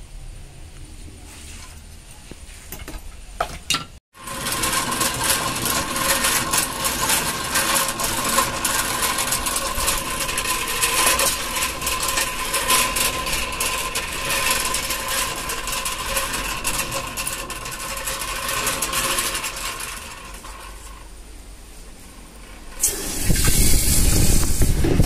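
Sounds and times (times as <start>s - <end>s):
forge blower whining: 4.2s - 25.0s
forge fire crackling: 4.2s - 25.0s.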